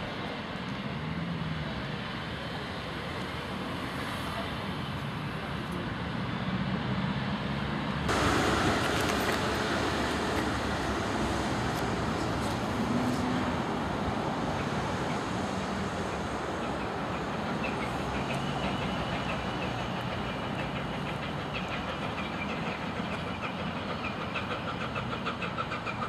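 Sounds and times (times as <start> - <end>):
rumble of coaches rolling on track: 0.0 - 26.0
train rushing through at speed: 0.0 - 26.0.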